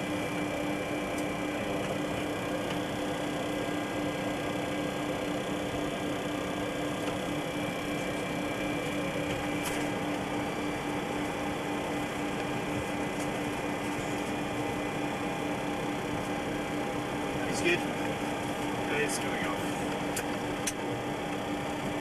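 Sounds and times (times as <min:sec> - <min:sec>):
constant low hum: 0:00.0 - 0:22.0.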